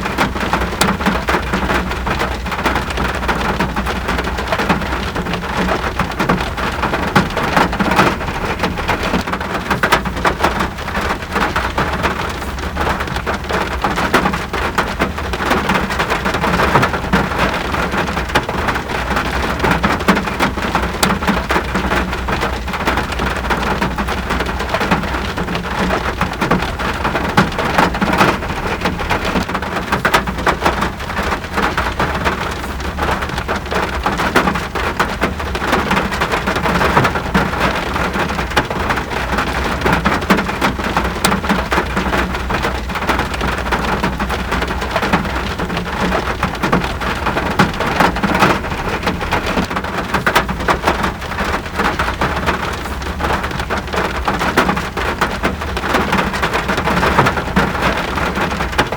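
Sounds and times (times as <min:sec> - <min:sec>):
rain patter: 0:00.0 - 0:58.9.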